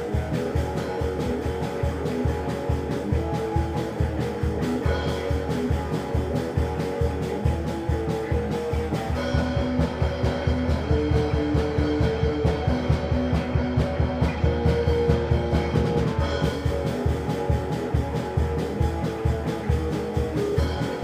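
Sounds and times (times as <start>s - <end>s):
fast driving drum beat: 0.0s - 21.0s
sustained guitar chords: 0.0s - 21.0s.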